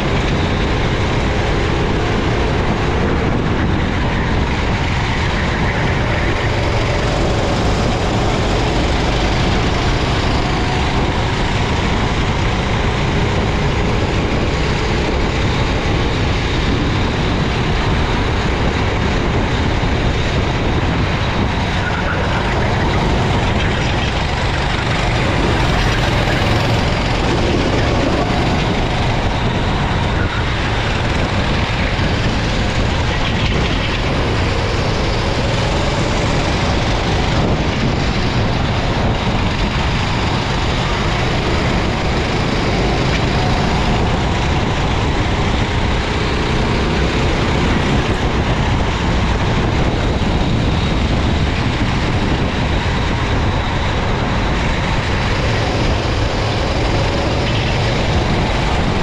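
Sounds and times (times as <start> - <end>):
racing kart engine: 0.0 - 59.0
wind and rain noise on microphone: 0.0 - 59.0.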